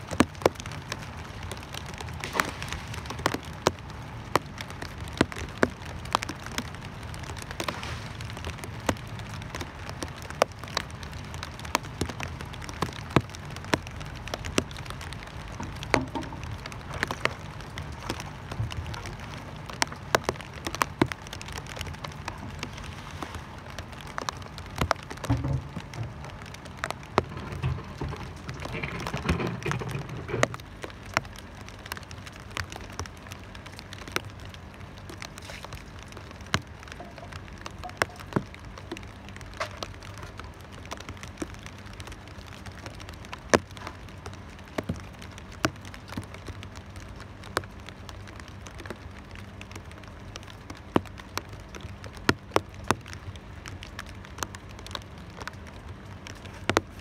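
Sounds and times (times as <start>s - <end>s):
rain pattering: 0.0s - 57.0s
raindrops tapping close by: 0.0s - 57.0s.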